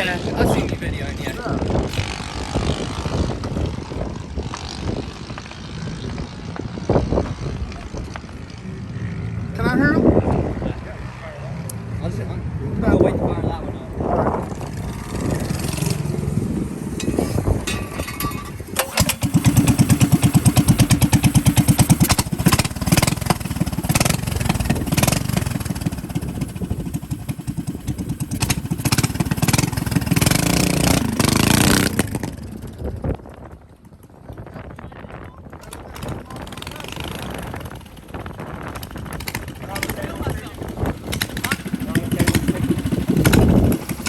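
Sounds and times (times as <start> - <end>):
small motorbike engine running: 0.0 - 9.3, 14.3 - 44.0.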